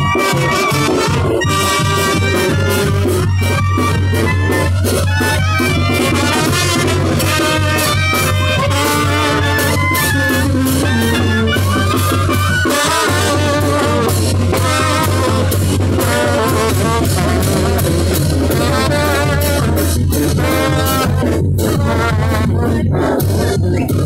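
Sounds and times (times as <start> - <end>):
wind band playing a loud tune: 0.0 - 24.0.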